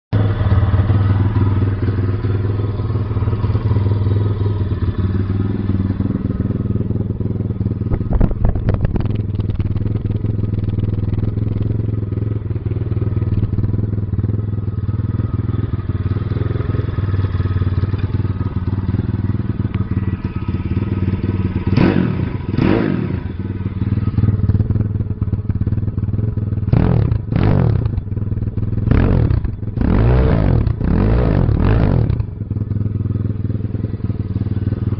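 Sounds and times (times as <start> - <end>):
motorbike engine idling and revving: 0.1 - 34.9.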